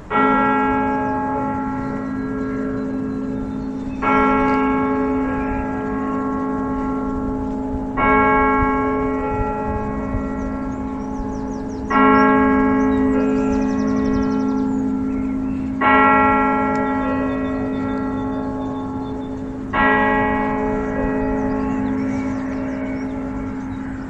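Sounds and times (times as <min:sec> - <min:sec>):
large bell tolling: 0:00.0 - 0:24.0.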